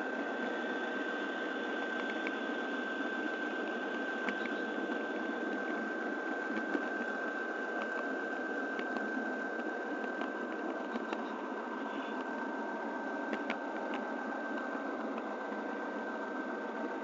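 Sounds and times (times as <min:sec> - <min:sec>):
high whine: 0:00.0 - 0:17.0.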